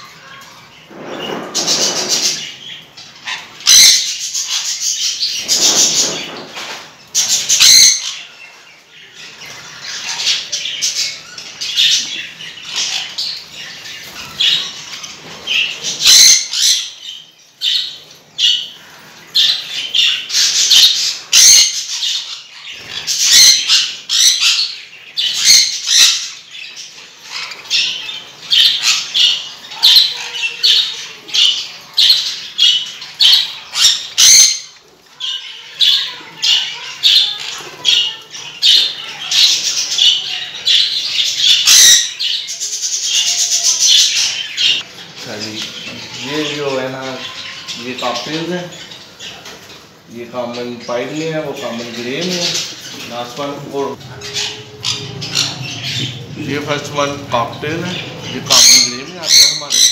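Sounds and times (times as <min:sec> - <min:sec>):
budgerigars chattering and squawking: 0:00.0 - 0:59.9.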